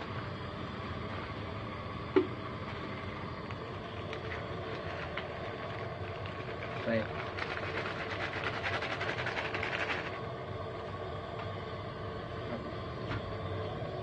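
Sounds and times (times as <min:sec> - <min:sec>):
steady low hum: 0:00.0 - 0:14.0
water boiling and bubbling: 0:00.0 - 0:14.0.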